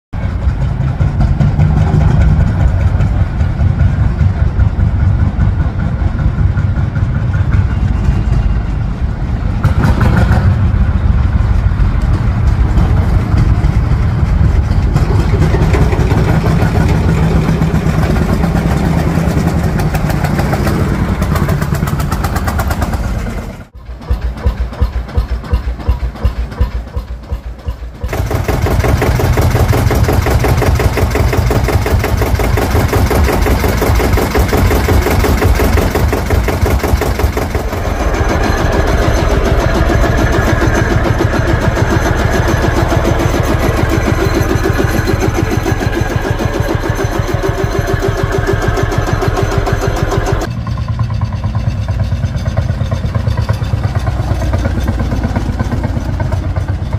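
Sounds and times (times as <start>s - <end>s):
tractor engines chugging: 0.0s - 56.9s.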